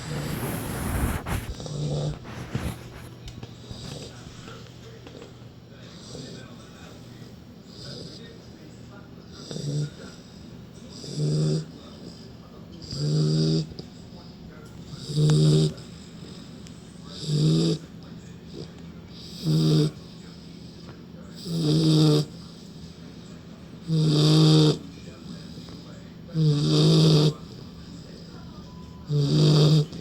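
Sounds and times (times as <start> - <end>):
puppy snoring: 0.0 - 6.6, 7.6 - 8.4, 9.2 - 13.9, 14.7 - 22.8, 23.8 - 30.0.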